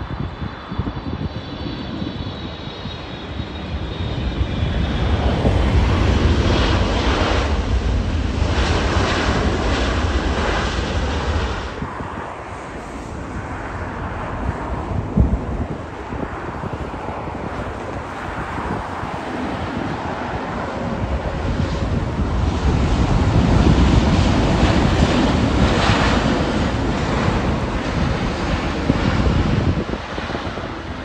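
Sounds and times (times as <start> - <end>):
jet airliner engines passing: 0.0 - 31.0.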